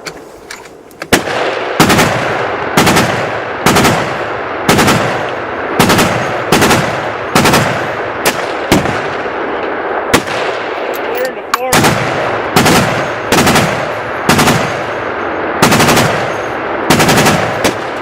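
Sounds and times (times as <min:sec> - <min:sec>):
gunshots with rolling echo: 0:00.7 - 0:18.0.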